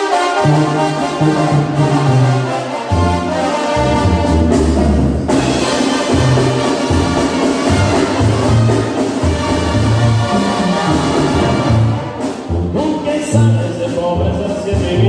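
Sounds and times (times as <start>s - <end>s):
trumpets and trombones: 0.0s - 15.0s.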